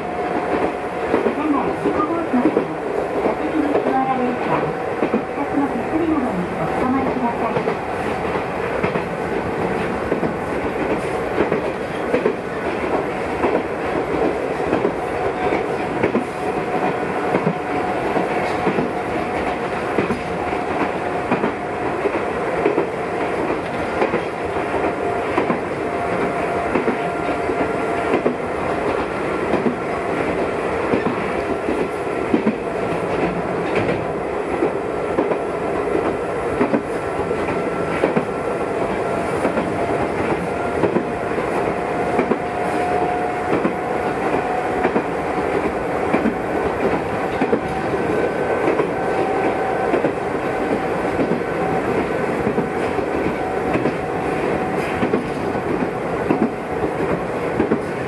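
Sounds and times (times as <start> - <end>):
train running noise: 0.0 - 58.0
train wheels clicking on rail joints: 0.0 - 58.0.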